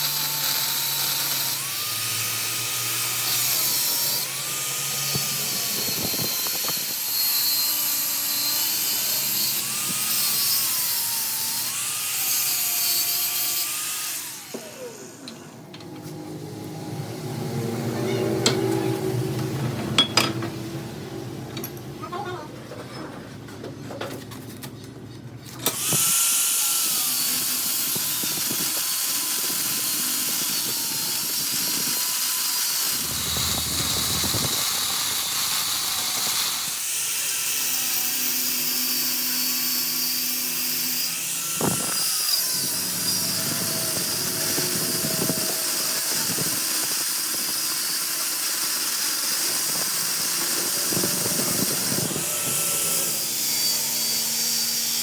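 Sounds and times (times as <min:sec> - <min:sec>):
power tool cutting metal: 0:00.0 - 0:22.3, 0:25.5 - 0:55.0.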